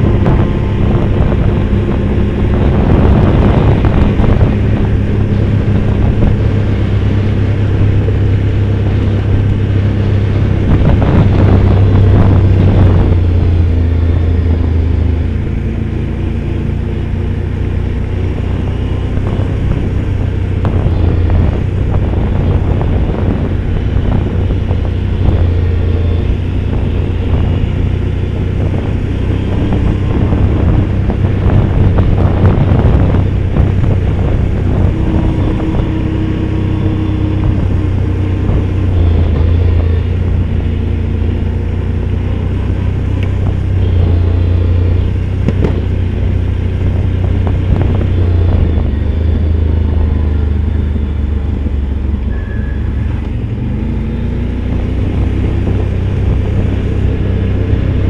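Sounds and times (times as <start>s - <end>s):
off-road vehicle engine running: 0.0s - 58.0s
wind noise on microphone: 0.0s - 58.0s.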